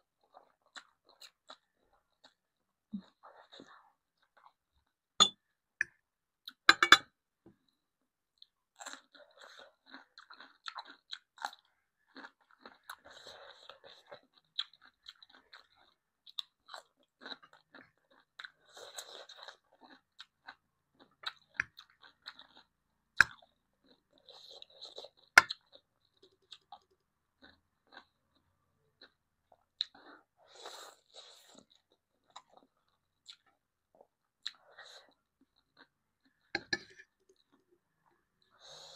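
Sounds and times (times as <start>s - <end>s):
person chewing and crunching food: 0.0s - 38.9s.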